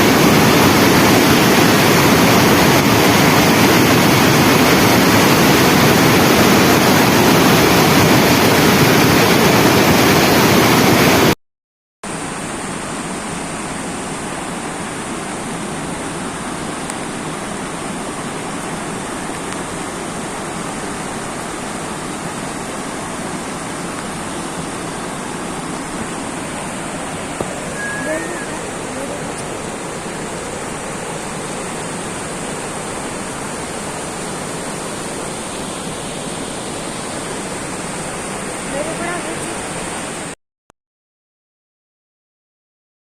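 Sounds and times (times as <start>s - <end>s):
floodwater rushing in river: 0.0s - 11.4s, 12.1s - 40.4s.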